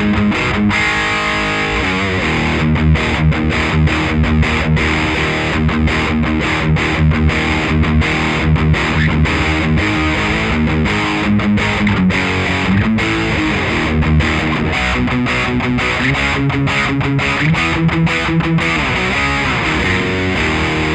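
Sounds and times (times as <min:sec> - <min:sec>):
overdriven electric guitar: 0:00.0 - 0:20.9.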